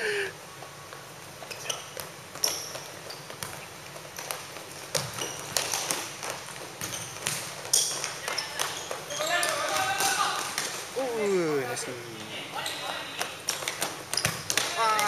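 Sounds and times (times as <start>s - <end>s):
shoes squeaking on floor: 1.0s - 10.4s, 12.3s - 15.0s.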